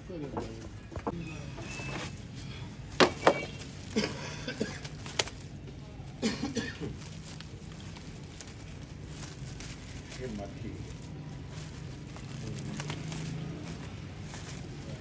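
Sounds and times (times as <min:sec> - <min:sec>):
plastic wrap crinkling: 0:02.0 - 0:15.0.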